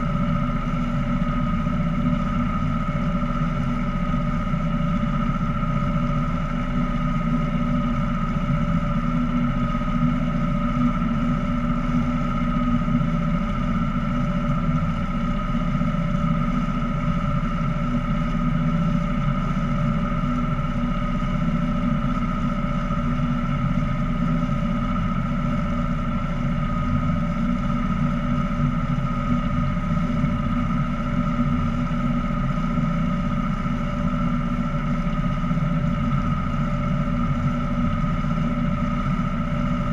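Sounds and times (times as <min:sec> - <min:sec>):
boat motor droning: 0:00.0 - 0:39.9.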